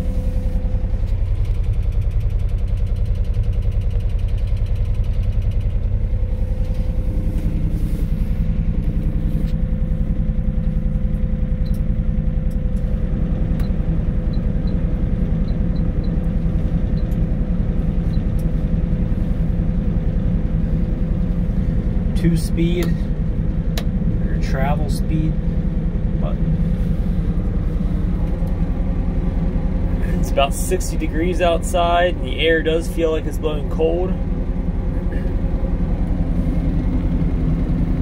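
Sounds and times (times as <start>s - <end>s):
diesel engine idling: 0.0s - 38.0s
thin steady whine: 5.8s - 38.0s.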